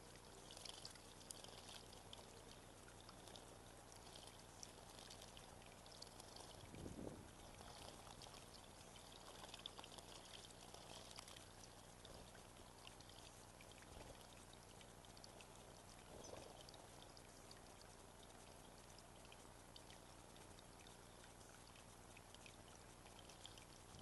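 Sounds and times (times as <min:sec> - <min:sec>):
trickling water: 0:00.0 - 0:24.0.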